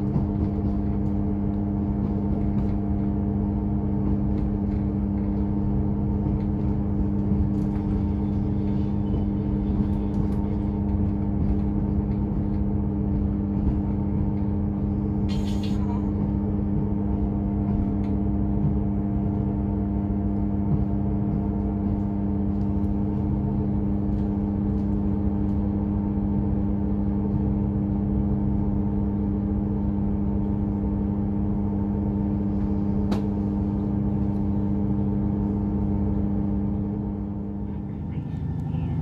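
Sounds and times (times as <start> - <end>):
train engine humming: 0.0 - 39.0.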